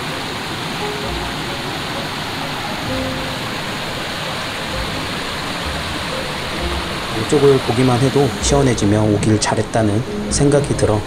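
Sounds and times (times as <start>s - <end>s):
soft background music: 0.0s - 11.0s
stream rushing over rocks: 0.0s - 11.0s.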